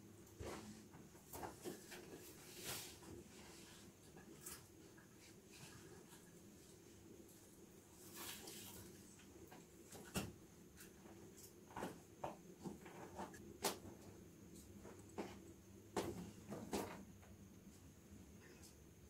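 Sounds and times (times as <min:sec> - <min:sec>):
gas stove burning with low hum: 0:00.0 - 0:19.0.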